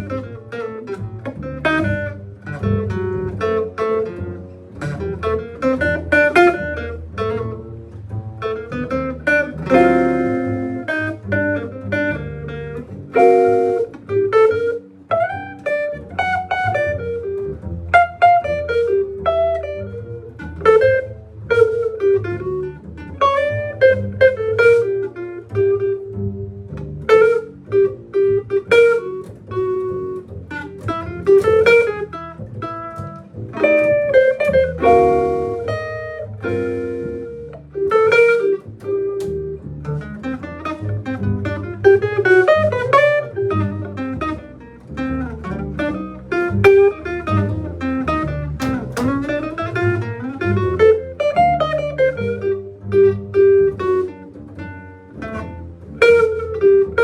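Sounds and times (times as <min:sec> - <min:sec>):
low bass line: 0:00.0 - 0:57.0
plucked guitar melody: 0:00.0 - 0:57.0.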